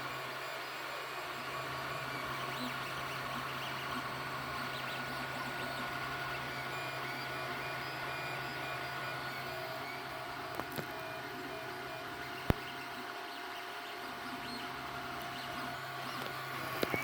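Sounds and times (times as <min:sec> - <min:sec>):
printer fan and motor hum: 0:00.0 - 0:17.0
stepper motor whines: 0:00.0 - 0:17.0.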